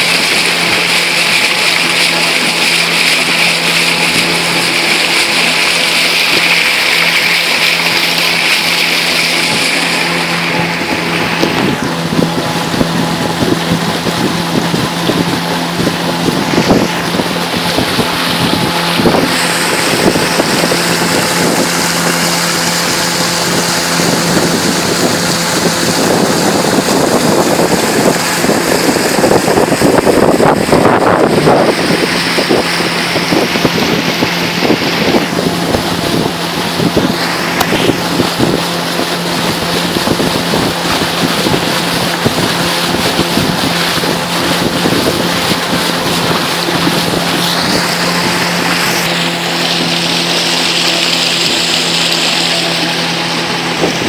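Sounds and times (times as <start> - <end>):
motorboat engine running: 0.0 - 54.0
water rushing: 0.0 - 54.0
wind buffeting microphone: 0.0 - 54.0.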